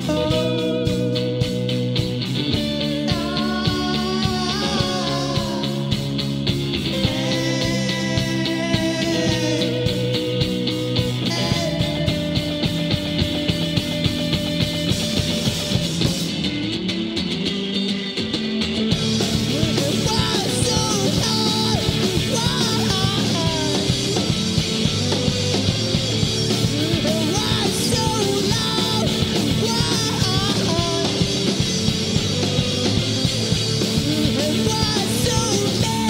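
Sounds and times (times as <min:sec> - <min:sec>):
drum kit with cymbals: 0:00.0 - 0:36.0
electric bass: 0:00.0 - 0:36.0
electric guitars: 0:00.0 - 0:36.0.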